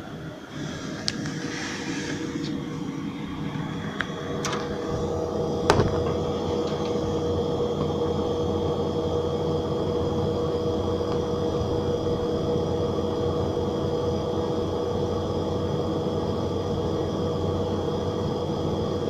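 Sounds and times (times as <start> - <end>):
computer fans humming and whining: 0.0 - 19.0.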